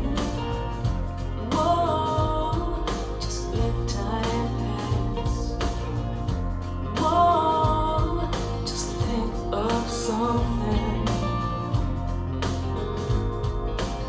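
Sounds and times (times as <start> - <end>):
bass line and drum beats: 0.0 - 14.0
song with singing voice: 0.0 - 14.0.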